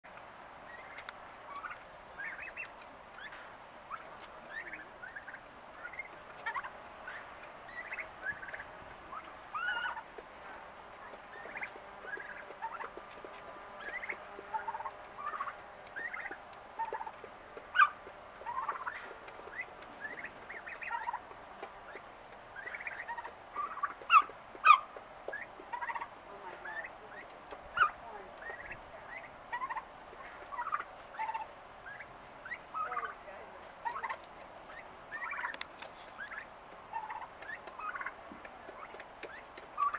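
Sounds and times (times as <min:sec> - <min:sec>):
turkeys yelping and peeping: 0:00.1 - 0:39.9.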